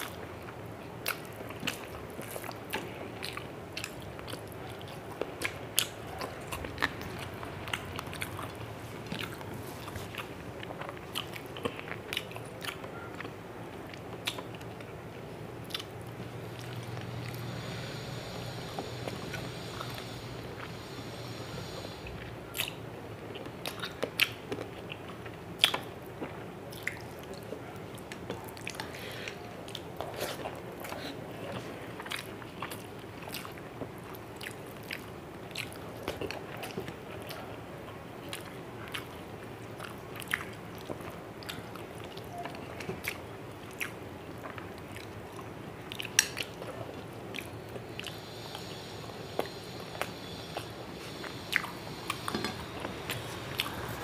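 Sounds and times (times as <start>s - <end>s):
chewing and mouth sounds: 0.0s - 54.0s.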